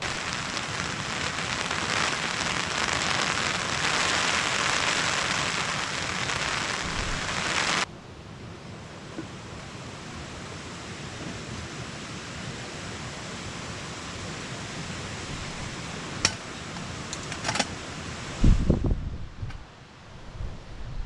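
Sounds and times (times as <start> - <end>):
rain and wind hiss: 0.0 - 21.0.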